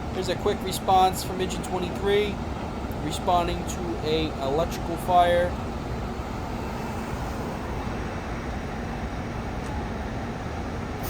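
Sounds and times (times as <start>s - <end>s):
city street traffic: 0.0s - 11.0s
fire engine diesel engine rumble: 0.0s - 11.0s.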